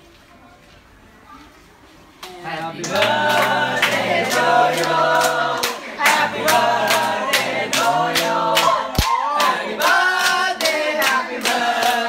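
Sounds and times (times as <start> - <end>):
group singing birthday song: 2.2 - 12.0
people clapping in time: 2.2 - 12.0.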